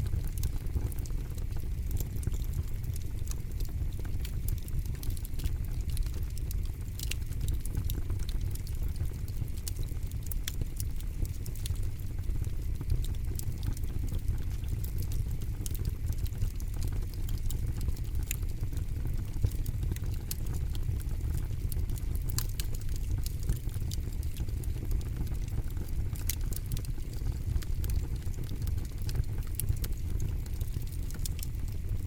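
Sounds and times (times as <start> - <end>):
campfire low rumble: 0.0 - 32.0
fire crackles and pops: 0.0 - 32.0.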